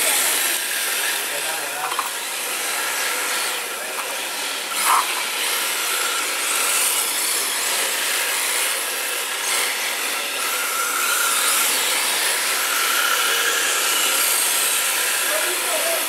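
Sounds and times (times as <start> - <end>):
faint electric motor whine: 0.0 - 16.0.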